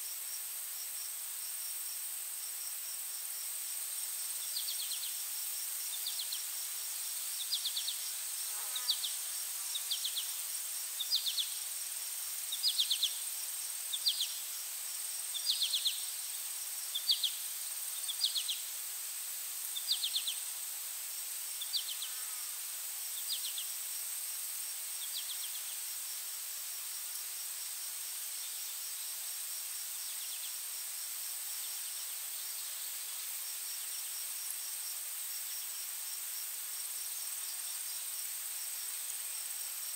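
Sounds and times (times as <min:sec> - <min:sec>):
insects high-pitched buzz: 0:00.0 - 0:39.9
short insect chirp: 0:00.0 - 0:39.9.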